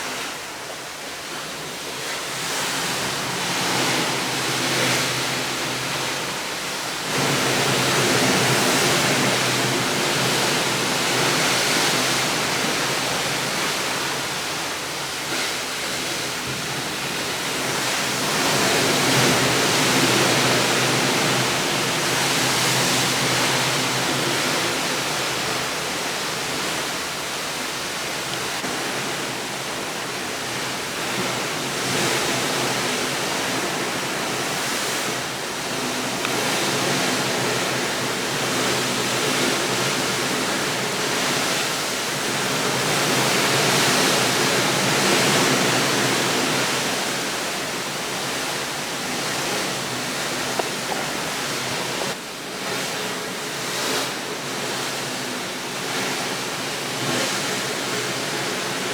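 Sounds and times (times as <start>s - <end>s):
rushing water: 0.0s - 58.9s.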